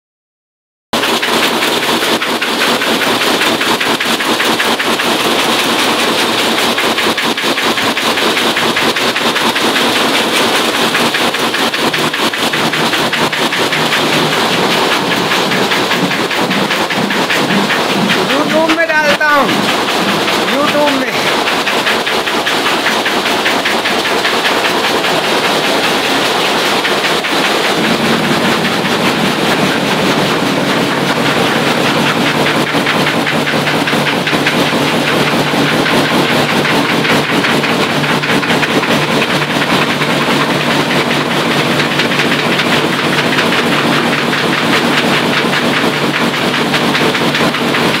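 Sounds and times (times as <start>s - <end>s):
cutting machine clattering: 1.0s - 48.0s.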